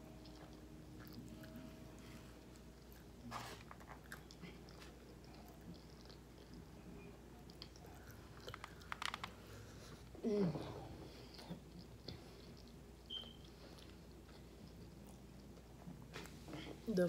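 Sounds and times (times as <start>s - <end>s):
close-up chewing: 0.0s - 16.7s.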